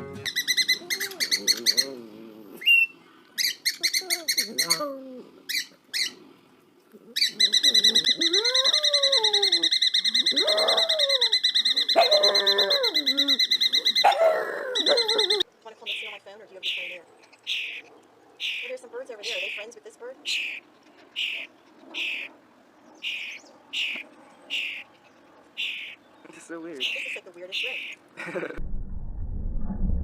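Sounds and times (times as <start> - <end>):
warbling bird calls: 0.3 - 6.4, 7.0 - 28.1.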